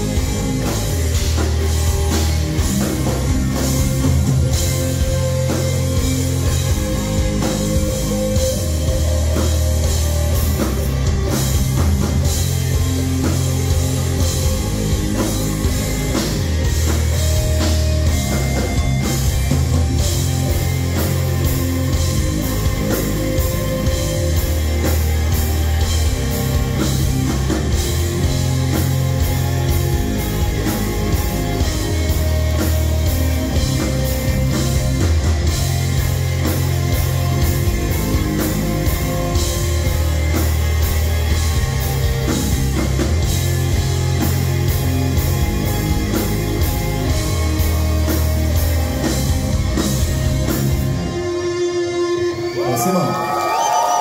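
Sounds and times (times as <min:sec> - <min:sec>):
drum kit: 0:00.0 - 0:52.1
bass guitar: 0:00.0 - 0:54.0
distorted electric guitars: 0:00.0 - 0:54.0.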